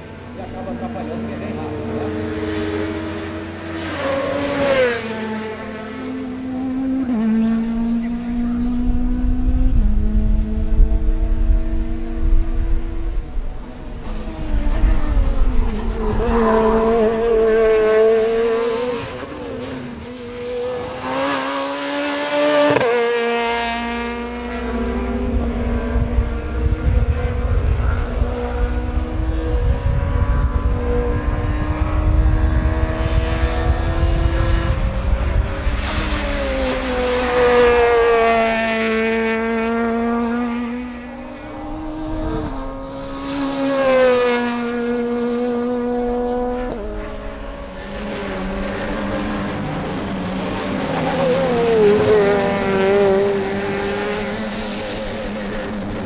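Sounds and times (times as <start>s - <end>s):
cars passing by: 0.0s - 56.0s
racing car engines at high revs: 0.0s - 56.0s.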